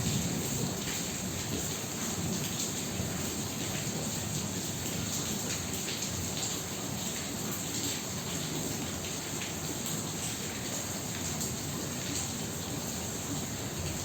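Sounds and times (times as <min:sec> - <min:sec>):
heavy rain: 0:00.0 - 0:14.0
raindrops hitting surfaces: 0:00.0 - 0:14.0.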